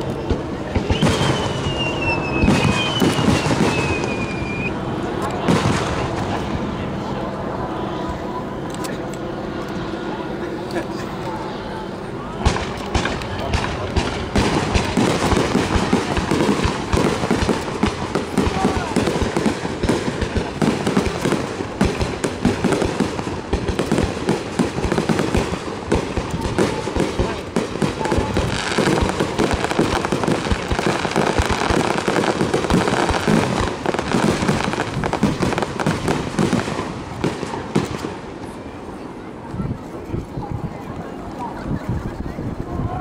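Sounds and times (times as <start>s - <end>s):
fireworks bursting and crackling: 0.0s - 7.2s, 12.4s - 43.0s.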